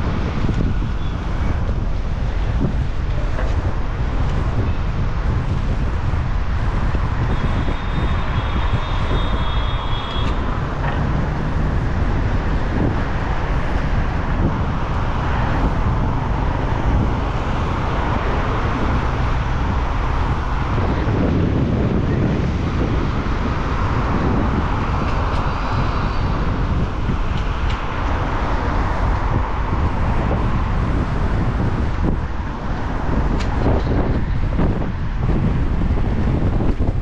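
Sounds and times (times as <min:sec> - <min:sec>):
gale-force wind rushing: 0:00.0 - 0:37.0.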